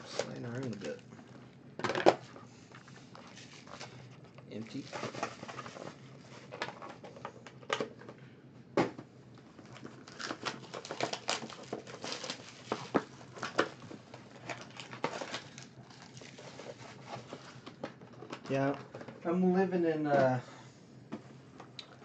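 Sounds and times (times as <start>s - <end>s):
packaging crinkling and rustling: 0.0s - 8.2s, 9.4s - 19.3s.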